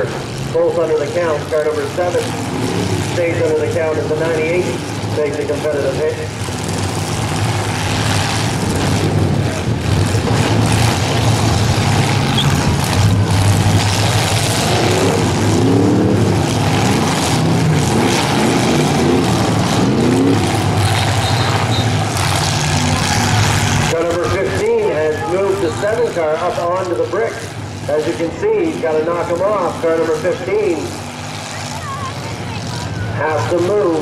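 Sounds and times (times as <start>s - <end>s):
car engines revving loudly: 0.0s - 34.0s.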